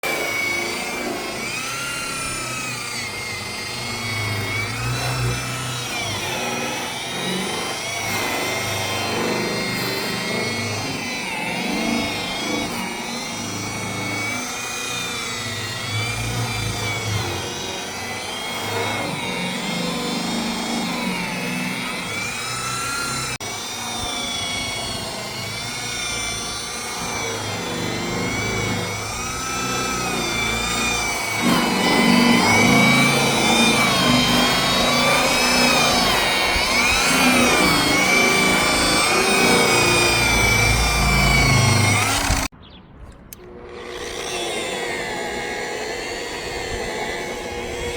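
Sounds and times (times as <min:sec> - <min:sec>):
rotary buffer motor whine: 0:00.0 - 0:42.5, 0:43.1 - 0:47.9.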